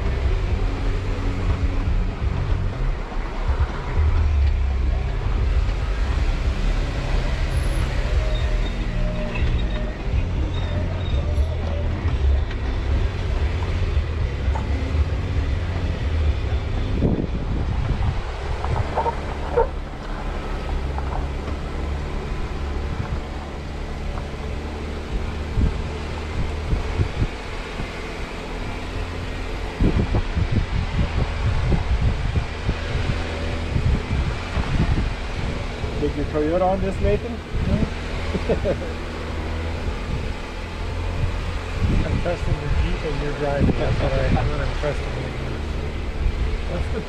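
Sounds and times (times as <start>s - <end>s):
vehicle engine low rumble: 0.0s - 47.0s.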